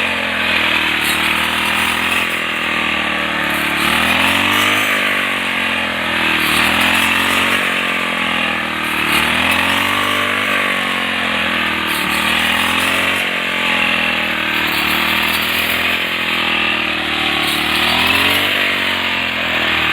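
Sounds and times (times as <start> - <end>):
brush cutter engine running: 0.0 - 19.9.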